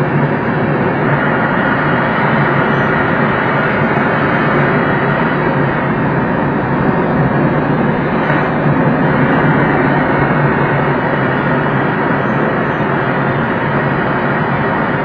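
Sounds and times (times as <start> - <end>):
air rushing over canopy: 0.0 - 15.0.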